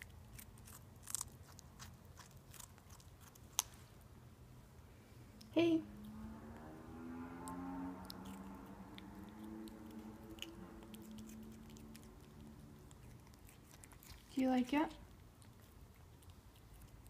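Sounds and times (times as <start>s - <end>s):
kitten crunching cucumber: 0.0s - 4.2s, 5.3s - 17.0s
low hum: 2.7s - 17.0s.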